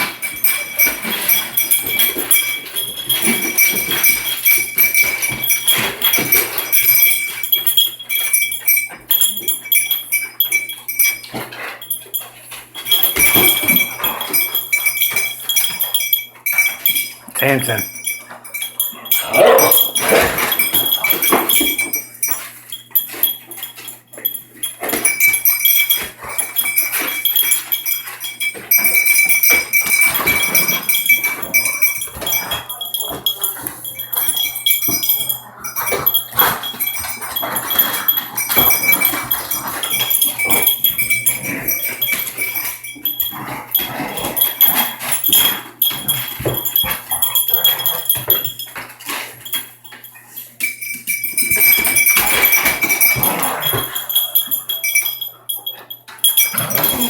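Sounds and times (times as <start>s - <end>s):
dog noises: 0.0s - 57.0s.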